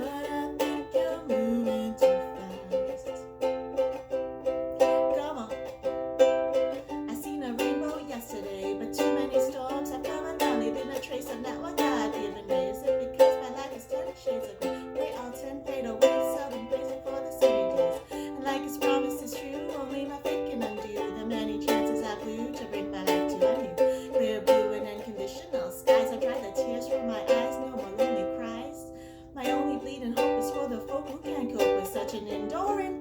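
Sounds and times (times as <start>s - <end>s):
ukulele strumming chords: 0.0s - 33.0s.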